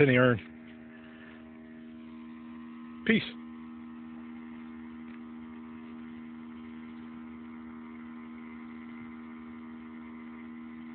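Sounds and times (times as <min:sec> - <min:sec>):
pump humming: 0:00.0 - 0:10.9.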